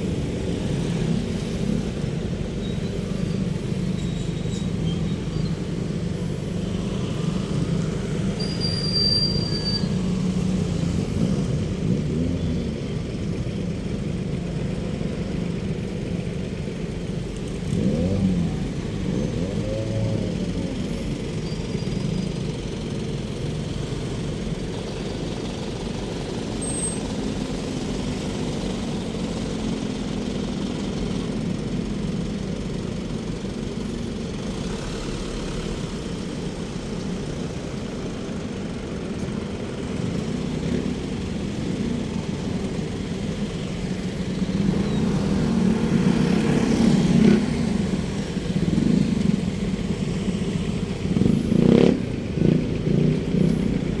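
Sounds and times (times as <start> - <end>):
road traffic rumble: 0.0 - 54.0
vehicles passing close by: 0.0 - 54.0.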